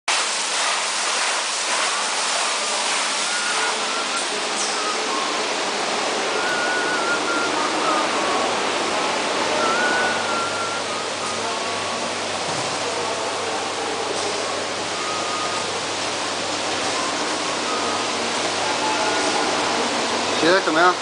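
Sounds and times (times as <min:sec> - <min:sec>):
water spray rushing: 0:00.1 - 0:21.0
faint high whines: 0:03.3 - 0:20.6.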